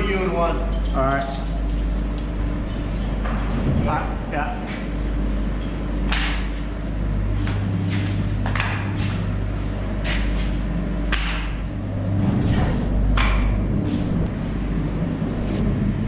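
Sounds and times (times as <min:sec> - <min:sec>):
machine engine humming: 0:01.9 - 0:16.0.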